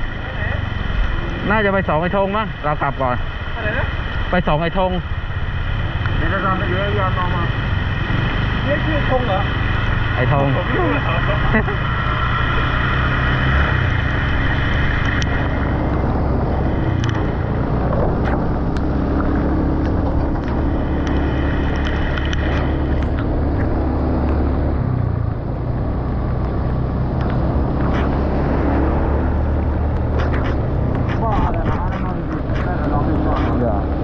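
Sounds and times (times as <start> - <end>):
boat engine drone: 0.0 - 34.0
wind and water hiss: 0.0 - 34.0.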